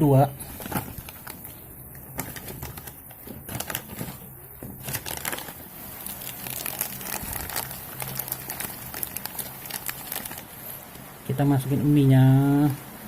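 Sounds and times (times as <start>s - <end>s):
plastic food packet crinkling: 0.2s - 11.0s.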